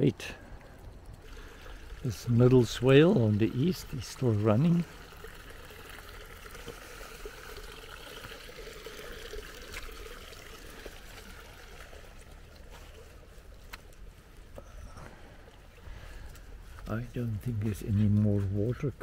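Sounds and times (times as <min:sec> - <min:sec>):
rainwater trickling: 0:00.0 - 0:19.0.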